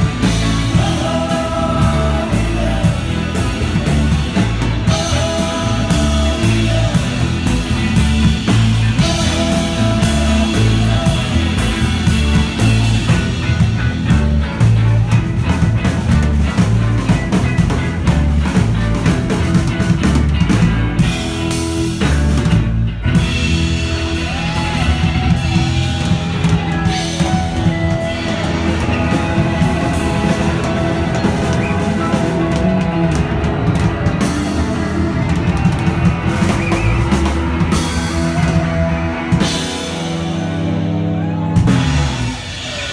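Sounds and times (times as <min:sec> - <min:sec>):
bass line: 0:00.0 - 0:42.9
drum kit beat: 0:00.0 - 0:42.9
electric guitar: 0:00.0 - 0:42.9.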